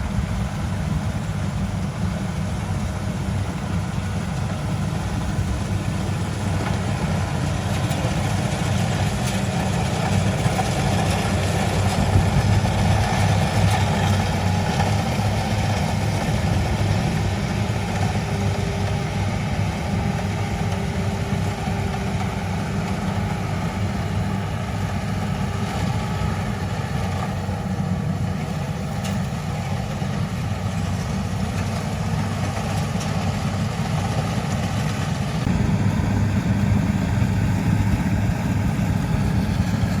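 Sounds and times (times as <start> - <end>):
combine harvester engine droning: 0.0 - 40.0.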